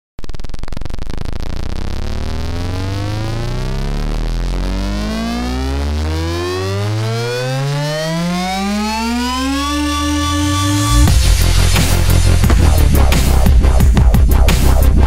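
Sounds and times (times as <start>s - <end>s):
deep bass drone: 0.2s - 15.0s
rising synthesizer sweep: 0.4s - 15.0s.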